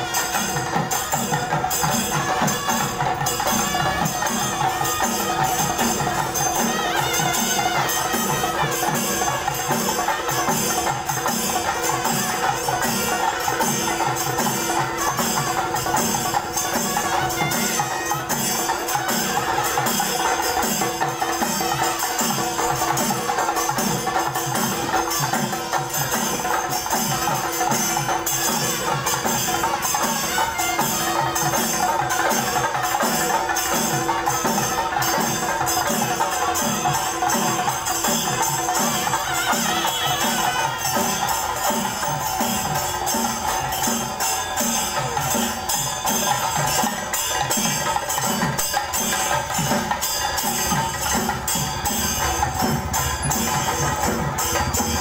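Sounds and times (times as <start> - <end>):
festive music with drum beat: 0.0 - 55.0.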